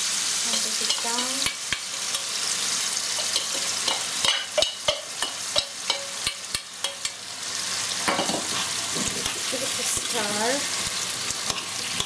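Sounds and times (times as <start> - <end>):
potatoes sizzling in hot oil: 0.0 - 12.0.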